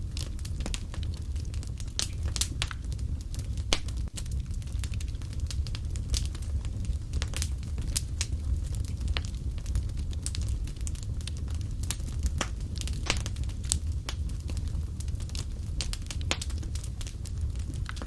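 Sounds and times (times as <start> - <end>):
fireplace fire crackling: 0.0 - 18.0
low rumble of flames: 0.0 - 18.0.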